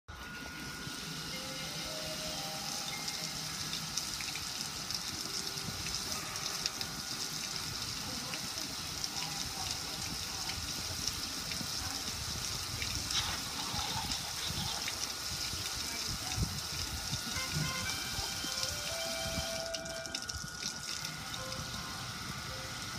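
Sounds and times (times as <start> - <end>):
water gushing and splashing: 1.9 - 21.6.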